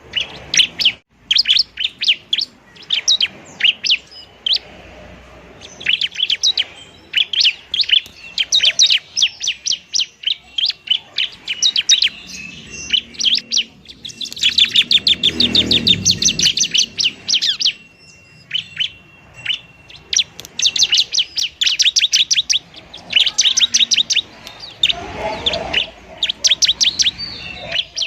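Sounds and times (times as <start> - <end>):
bird chirping sharply: 0.0 - 28.0.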